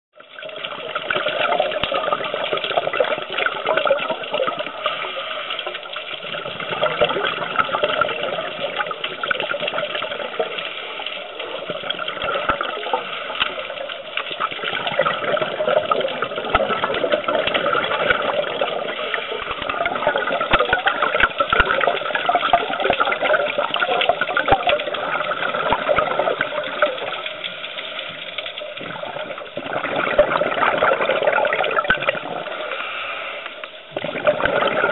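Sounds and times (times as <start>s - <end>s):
fine underwater crackling: 0.1s - 34.9s
underwater rush of water: 0.2s - 34.9s.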